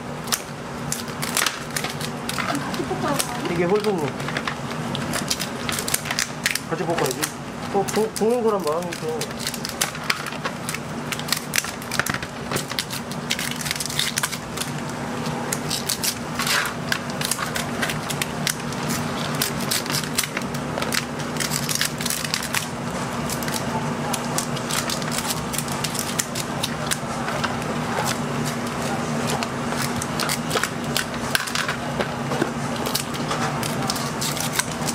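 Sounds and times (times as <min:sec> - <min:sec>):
steady low hum: 0:00.0 - 0:34.9
scissors cracking crab shells: 0:00.2 - 0:32.1, 0:32.8 - 0:34.9.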